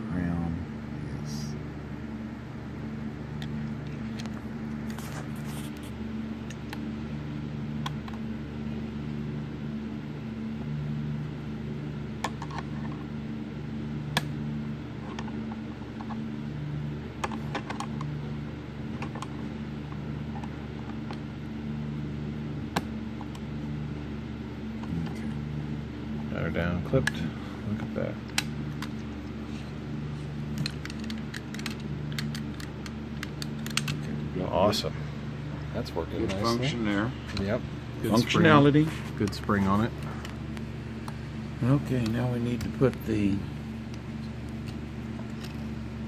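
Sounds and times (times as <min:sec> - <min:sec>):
low background hum: 0:00.0 - 0:46.0.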